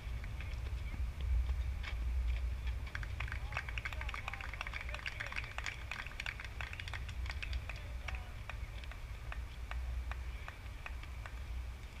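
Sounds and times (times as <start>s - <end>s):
steady low rumble: 0.0s - 12.0s
distant voices of players: 0.1s - 12.0s.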